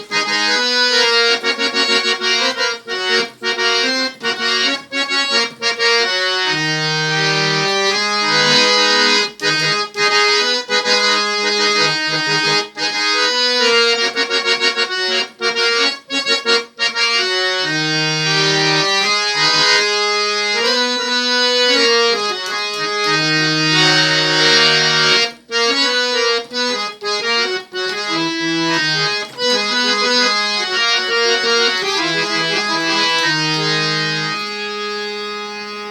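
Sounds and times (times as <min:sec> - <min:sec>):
harmonium melody: 0:00.0 - 0:35.9.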